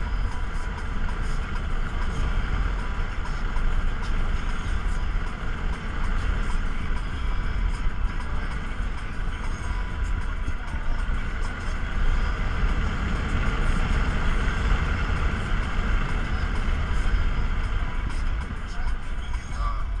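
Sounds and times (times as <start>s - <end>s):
road and wind noise in car: 0.0s - 20.0s.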